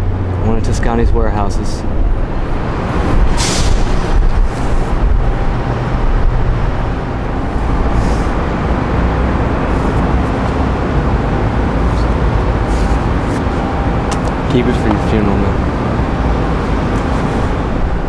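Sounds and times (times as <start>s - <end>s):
city traffic: 0.0s - 18.0s
wind rumble on microphone: 0.0s - 18.0s.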